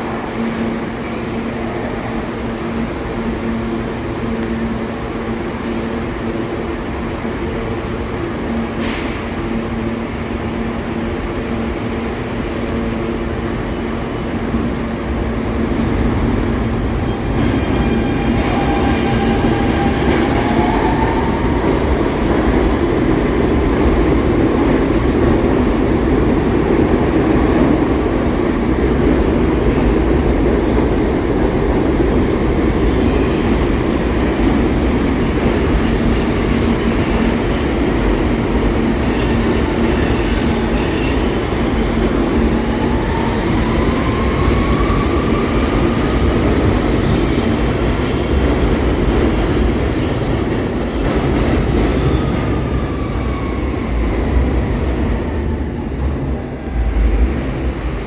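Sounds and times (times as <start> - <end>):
subway train humming: 0.0 - 58.0.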